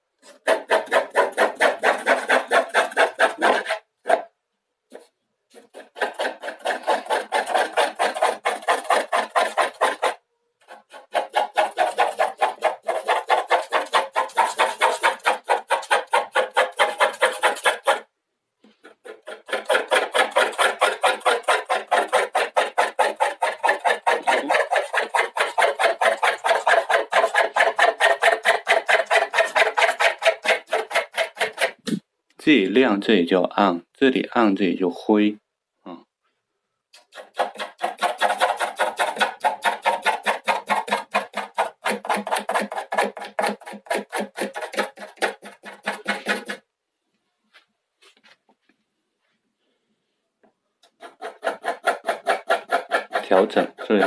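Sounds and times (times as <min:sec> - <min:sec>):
pencil scratching on paper: 0:00.2 - 0:04.3, 0:04.9 - 0:18.1, 0:18.7 - 0:32.0, 0:37.0 - 0:46.7, 0:50.8 - 0:54.0.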